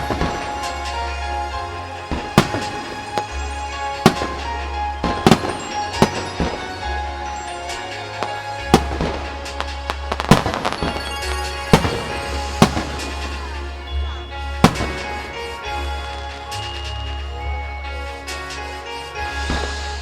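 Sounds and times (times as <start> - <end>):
firework shells bursting: 0.0 - 17.4
music over loudspeakers: 0.0 - 20.0.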